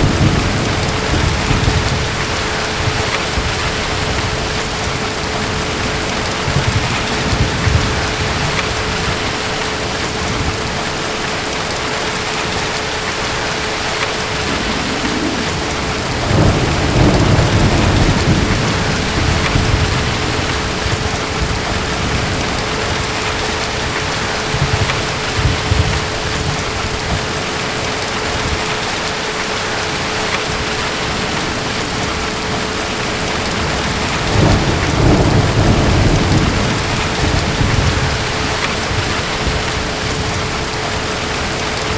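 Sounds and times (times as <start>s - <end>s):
distant thunder rumbling: 0.0s - 10.8s, 11.4s - 41.9s
heavy rain: 0.0s - 41.9s.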